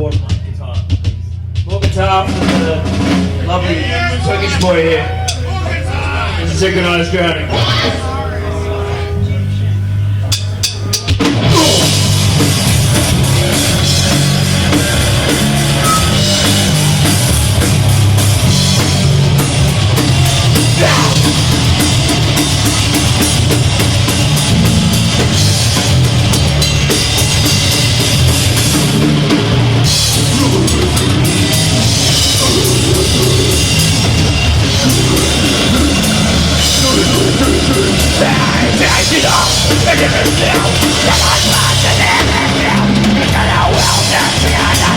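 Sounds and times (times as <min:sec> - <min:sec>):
fast drum kit: 0:00.0 - 0:08.0, 0:10.3 - 0:44.9
bass guitar: 0:00.0 - 0:44.9
heavily distorted guitars: 0:00.0 - 0:44.9.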